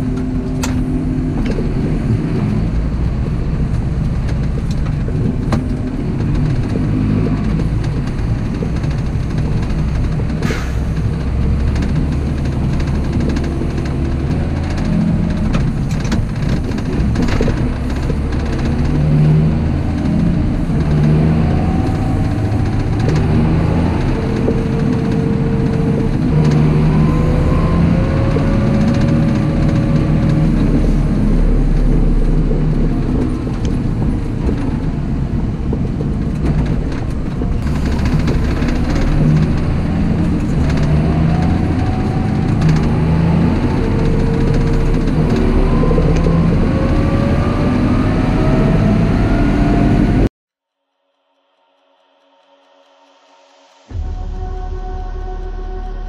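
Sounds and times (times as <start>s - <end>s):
cab drone: 0.0s - 50.3s, 51.1s - 56.0s
tractor diesel engine running: 0.0s - 50.3s.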